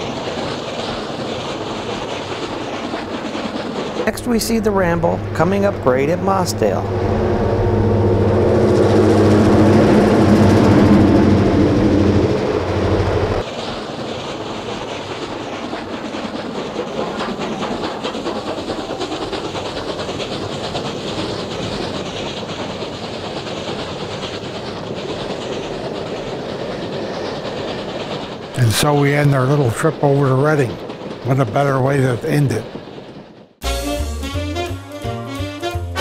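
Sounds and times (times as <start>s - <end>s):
train wheels clickety-clack: 0.0s - 6.4s, 8.7s - 33.6s
locomotive engine drone: 0.0s - 36.0s.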